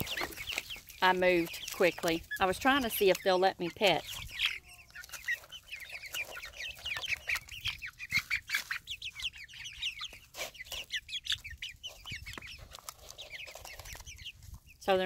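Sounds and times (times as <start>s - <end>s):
chicks peeping and clucking: 0.0s - 15.0s.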